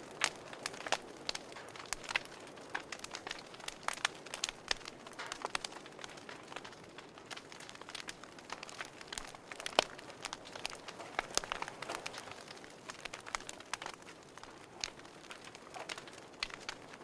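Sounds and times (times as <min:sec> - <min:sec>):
burning logs hissing: 0:00.0 - 0:17.0
fire pops and snaps: 0:00.0 - 0:17.0.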